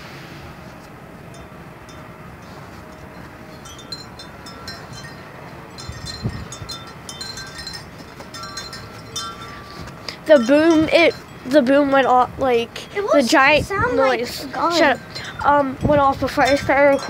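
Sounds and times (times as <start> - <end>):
low background rumble: 0.0 - 17.0
light metallic tinkling: 1.3 - 17.0.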